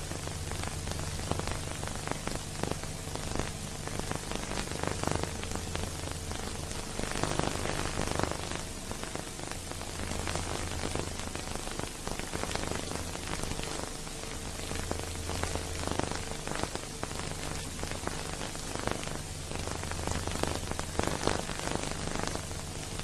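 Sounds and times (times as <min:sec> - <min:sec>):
film soundtrack hiss and crackle: 0:00.0 - 0:23.0.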